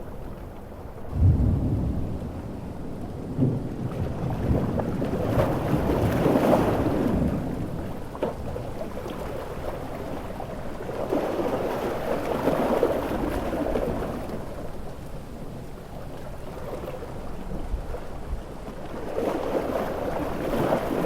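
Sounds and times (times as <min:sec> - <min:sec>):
large ocean waves breaking: 0:00.0 - 0:21.0.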